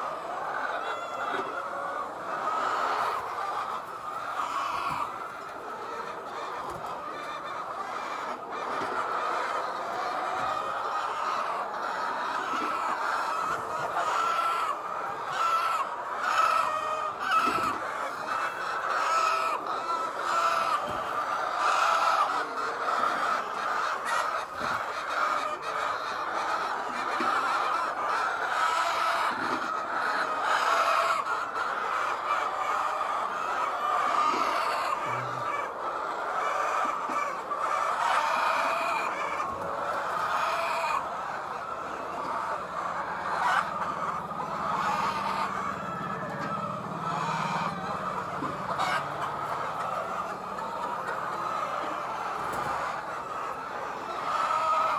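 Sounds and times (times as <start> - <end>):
hens clucking: 0.0 - 54.9.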